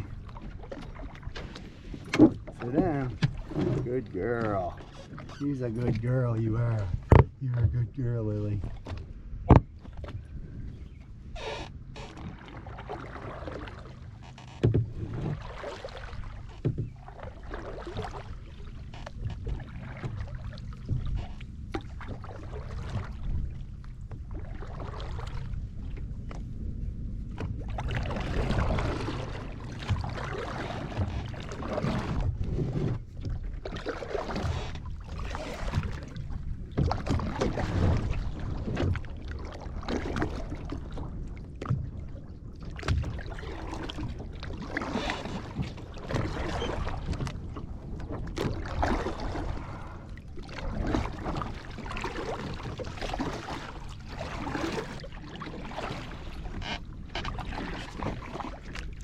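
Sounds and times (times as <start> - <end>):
paddle splashing through water: 0.0 - 59.0
wind rumble on microphone: 0.0 - 59.0.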